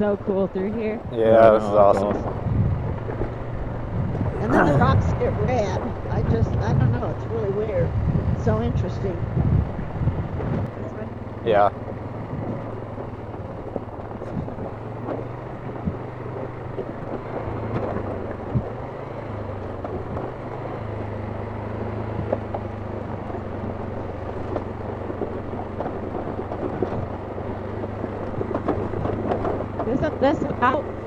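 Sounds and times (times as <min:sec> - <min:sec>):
atv engine running: 0:00.0 - 0:31.0
knocks and rattles over rough ground: 0:00.0 - 0:31.0.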